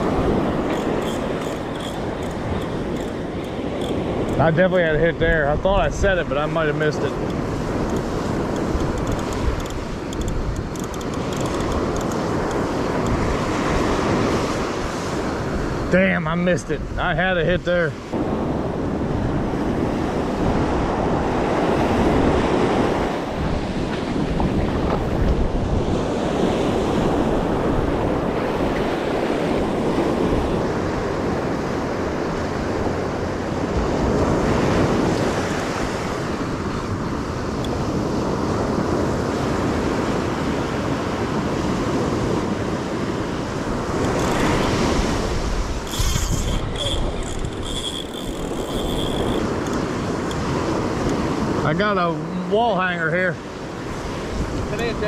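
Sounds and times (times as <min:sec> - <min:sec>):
wind buffeting microphone: 0:00.0 - 0:16.0, 0:18.0 - 0:51.9, 0:53.4 - 0:55.0
ocean surf breaking: 0:00.0 - 0:55.0.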